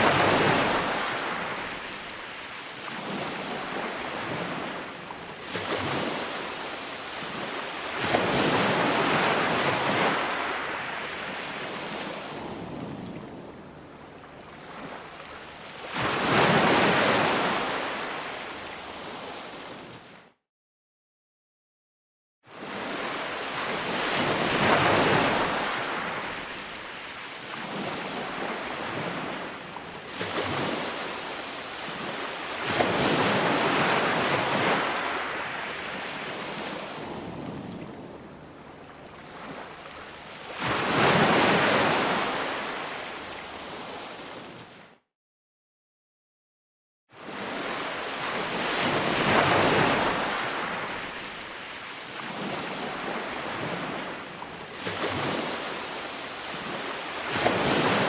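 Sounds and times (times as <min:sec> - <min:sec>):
ocean waves breaking on shore: 0:00.0 - 0:20.3, 0:22.5 - 0:45.0, 0:47.2 - 0:58.0.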